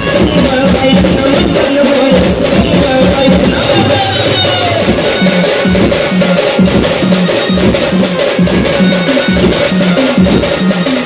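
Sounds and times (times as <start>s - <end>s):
loud band music with drums: 0.0s - 11.0s.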